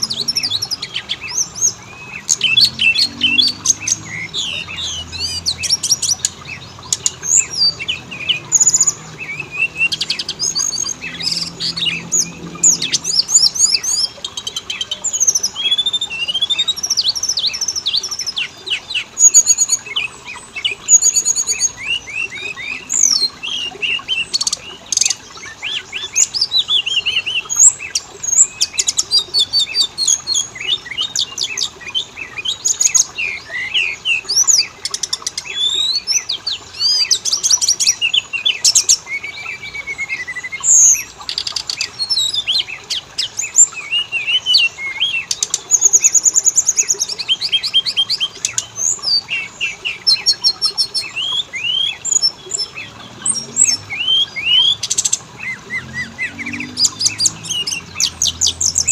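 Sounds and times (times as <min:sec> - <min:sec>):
songbird whistling and trilling: 0:00.0 - 0:58.9.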